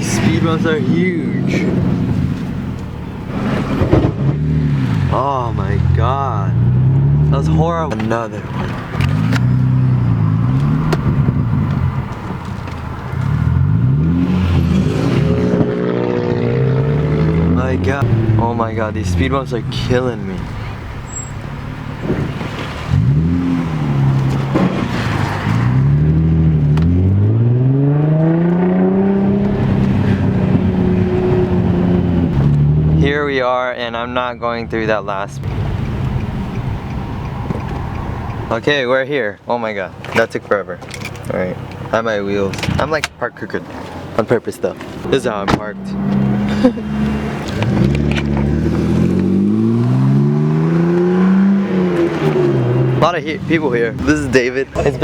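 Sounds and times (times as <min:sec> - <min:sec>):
car engine accelerating: 0:00.0 - 0:33.3, 0:43.6 - 0:55.0.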